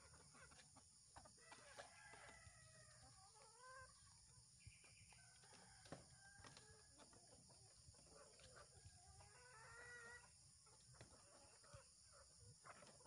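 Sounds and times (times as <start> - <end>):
chickens calling and clucking: 0.0 - 13.0.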